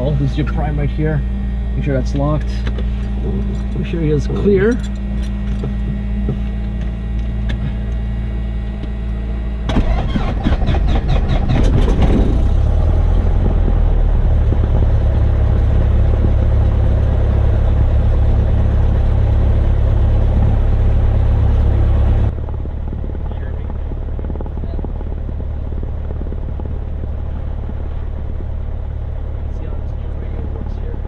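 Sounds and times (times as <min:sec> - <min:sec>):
aircraft engine starting and idling: 0:00.0 - 0:31.0
steady hum: 0:00.0 - 0:31.0.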